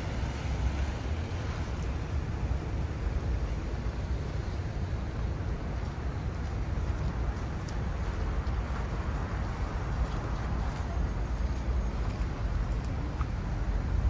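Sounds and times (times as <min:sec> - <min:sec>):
cars moving along busy road: 0:00.0 - 0:14.0.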